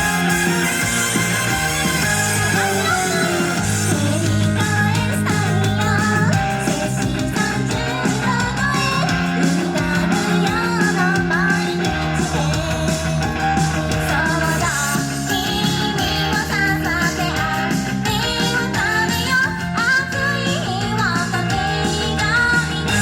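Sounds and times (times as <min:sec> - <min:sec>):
pop band with singing: 0:00.0 - 0:23.0.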